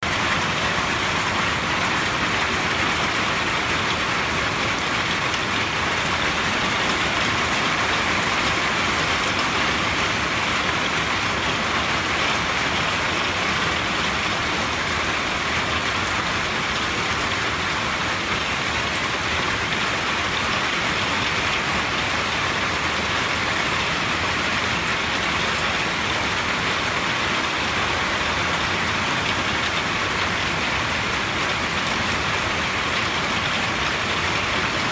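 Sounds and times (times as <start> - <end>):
rain on a tin roof: 0.0 - 34.9.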